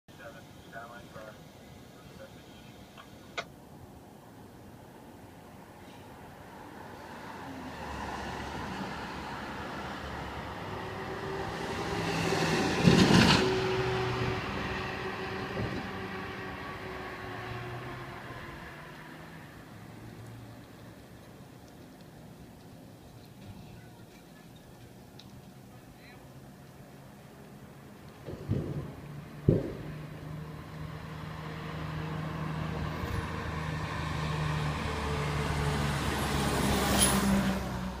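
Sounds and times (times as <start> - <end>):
fire engine driving past: 0.1 - 38.0.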